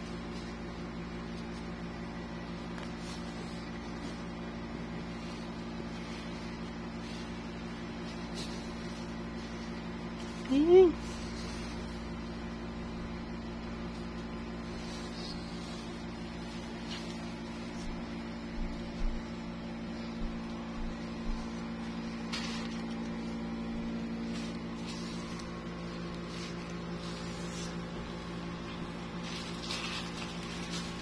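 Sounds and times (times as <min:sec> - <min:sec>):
machine hum: 0:00.0 - 0:31.0.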